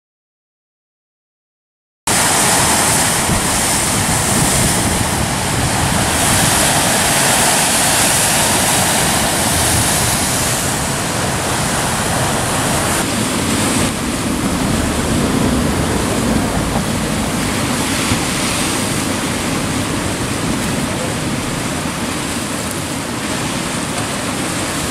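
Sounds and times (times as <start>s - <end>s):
surf breaking on rocks: 2.1s - 24.9s
wind on microphone: 2.1s - 24.9s.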